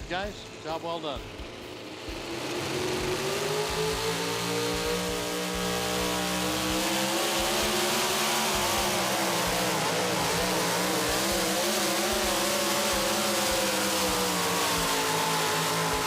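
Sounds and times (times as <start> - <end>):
truck engine running flat out: 0.0 - 16.0.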